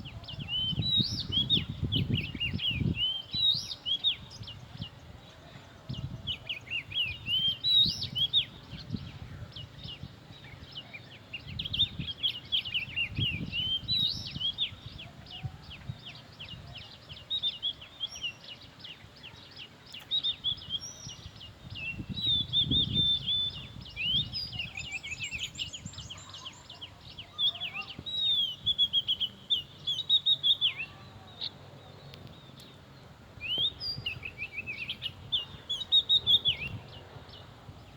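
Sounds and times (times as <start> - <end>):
bird singing whistled song: 0.0 - 32.8, 33.4 - 37.9.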